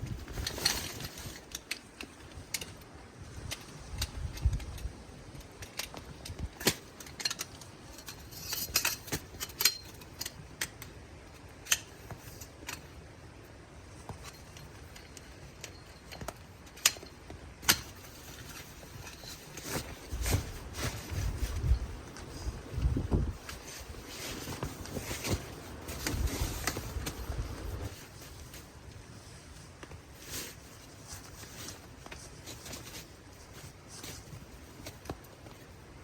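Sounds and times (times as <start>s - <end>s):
faint steady hiss: 0.0s - 36.0s.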